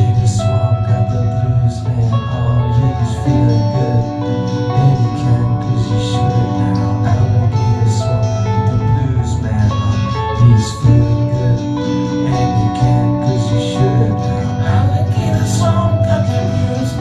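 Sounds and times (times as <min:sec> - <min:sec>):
guitar playing: 0:00.0 - 0:17.0
live acoustic band music: 0:00.0 - 0:17.0.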